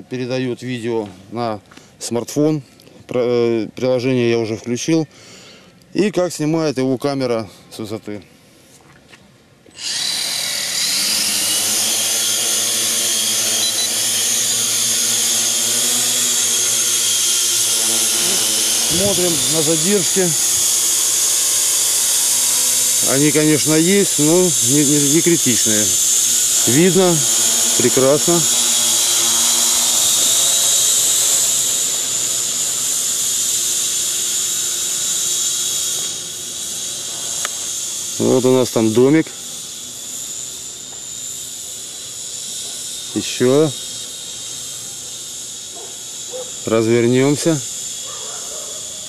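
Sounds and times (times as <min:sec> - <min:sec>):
drone motors whining: 0:09.7 - 0:49.0.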